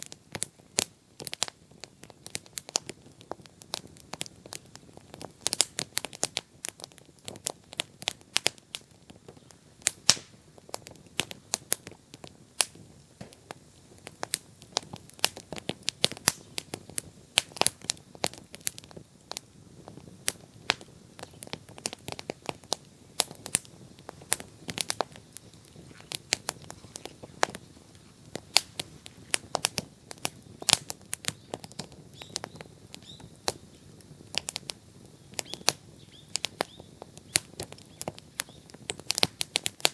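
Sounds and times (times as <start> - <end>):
bonfire crackling and popping: 0.0 - 39.9
low rush of flame: 0.0 - 39.9.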